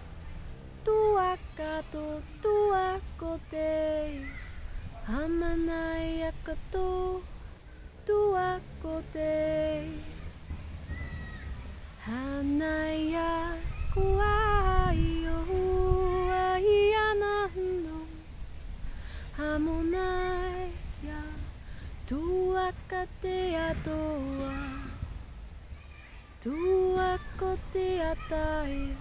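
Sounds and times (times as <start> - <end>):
woman singing a cappella: 0.8 - 4.4, 5.0 - 10.4, 12.0 - 18.4, 19.2 - 25.0, 26.4 - 29.0.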